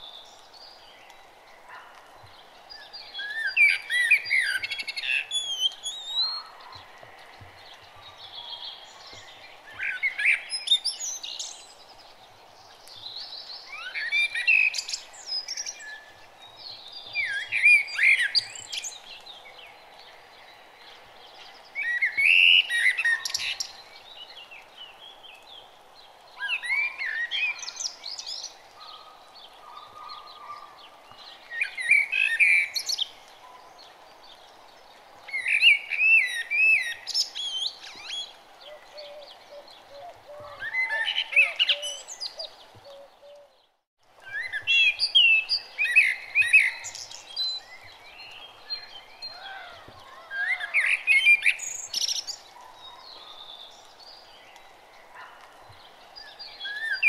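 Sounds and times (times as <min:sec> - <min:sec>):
faint background noise: 0:00.0 - 0:57.0.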